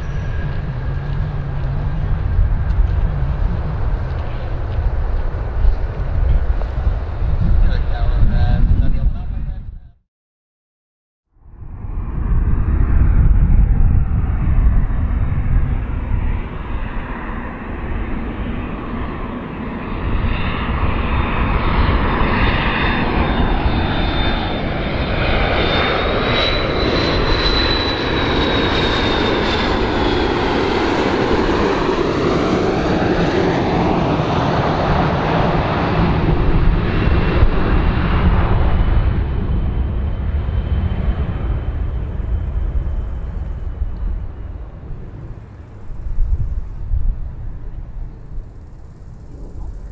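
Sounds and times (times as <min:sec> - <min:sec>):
high jet whine: 0:00.0 - 0:09.9, 0:11.4 - 0:49.9
jet engine roar: 0:00.0 - 0:09.9, 0:11.4 - 0:49.9.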